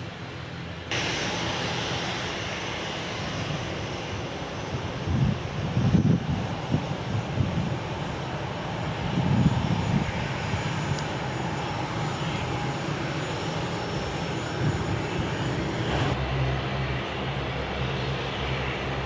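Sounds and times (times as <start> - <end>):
airliner engine rumble: 0.0 - 19.0.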